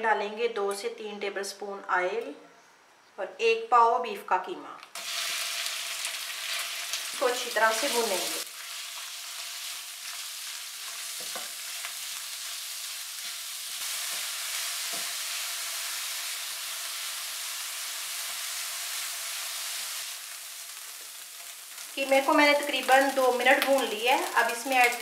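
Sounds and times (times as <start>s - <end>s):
meat sizzling in oil: 5.0s - 25.0s.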